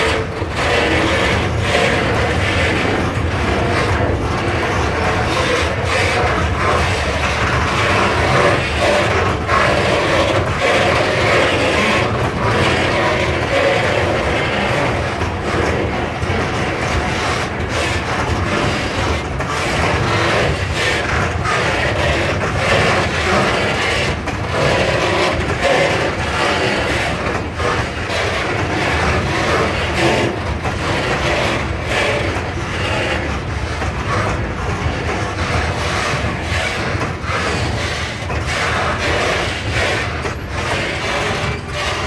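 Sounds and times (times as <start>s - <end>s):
wheel-on-rail rumble and rattle: 0.0s - 42.0s
wheels and couplings clanking: 0.0s - 42.0s.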